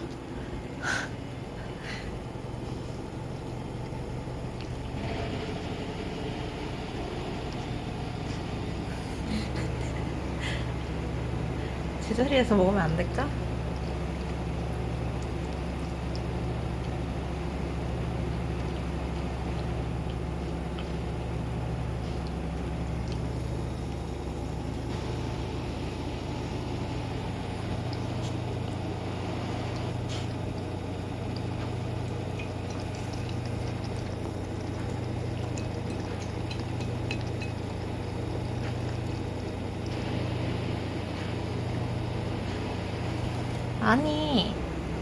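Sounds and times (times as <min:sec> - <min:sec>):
dog lapping: 0:00.0 - 0:45.0
steady low hum: 0:00.0 - 0:45.0.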